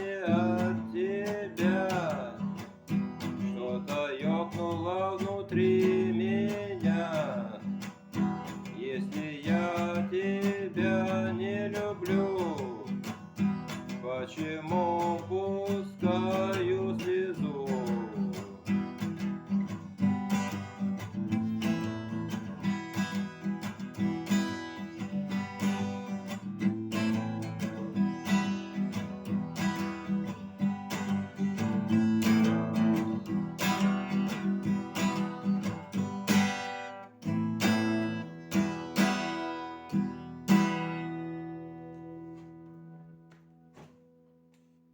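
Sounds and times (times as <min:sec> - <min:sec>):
acoustic guitar strumming: 0:00.0 - 0:44.7.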